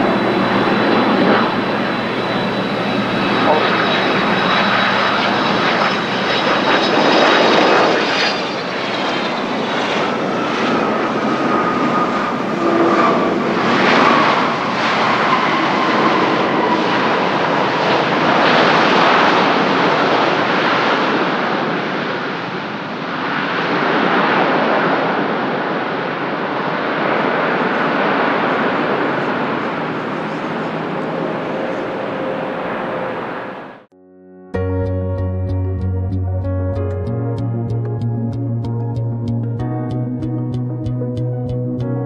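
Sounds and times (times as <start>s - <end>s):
faint jet whine: 0.0s - 33.9s
jet engine roar: 0.0s - 33.9s.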